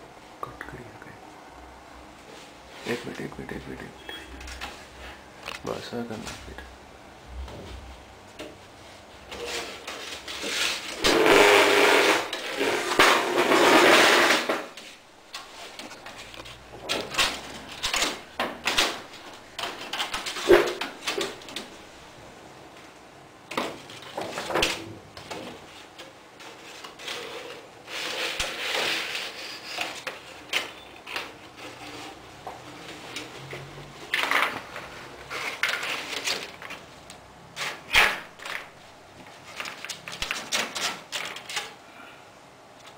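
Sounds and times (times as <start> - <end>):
plastic sheets rustling: 2.1 - 6.6, 7.6 - 42.1.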